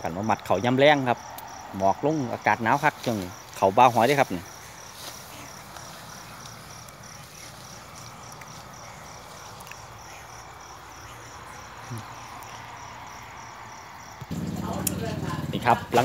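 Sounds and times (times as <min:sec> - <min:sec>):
insect chirping: 0:00.0 - 0:16.0
insect chorus hiss: 0:00.0 - 0:16.0.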